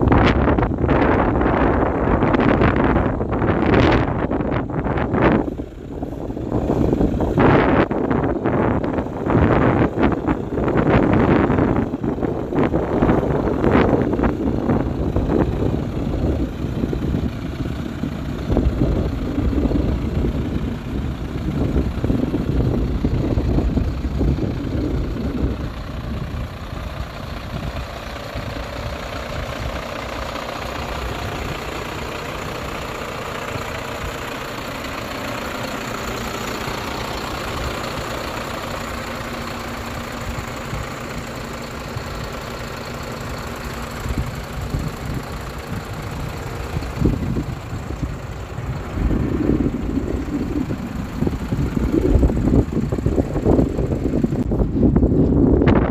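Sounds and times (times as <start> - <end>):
diesel truck engine idling: 0.0 - 55.9
wind buffeting microphone: 0.0 - 55.9.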